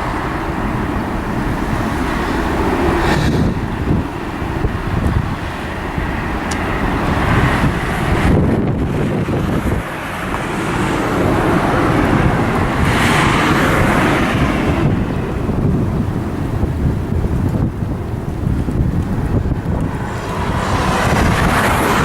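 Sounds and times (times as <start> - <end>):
steady broad roar: 0.0 - 22.0
wind buffeting microphone: 0.0 - 22.0.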